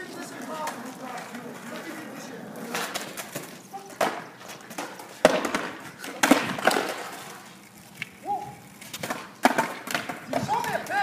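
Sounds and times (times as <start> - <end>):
skateboard wheels rolling and scraping: 0.0 - 11.0
skateboards clacking on asphalt: 0.0 - 11.0.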